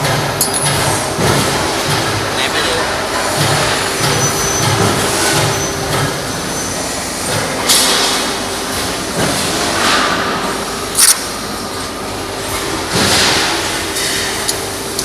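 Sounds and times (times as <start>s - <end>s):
factory machinery hum: 0.0s - 15.0s.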